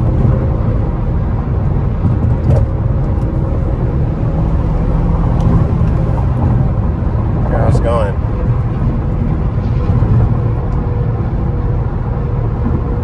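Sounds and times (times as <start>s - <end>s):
car engine and tyres droning: 0.0s - 13.0s.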